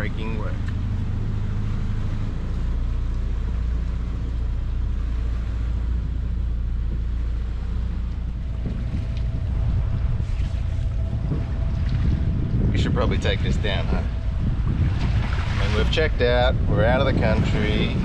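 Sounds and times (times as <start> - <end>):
boat engine rumbling: 0.0 - 18.0
wind buffeting microphone: 0.0 - 18.0.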